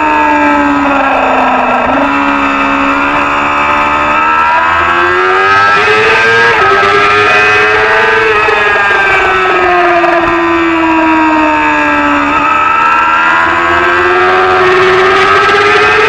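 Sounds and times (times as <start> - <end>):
racing motorcycle engine: 0.0 - 16.0.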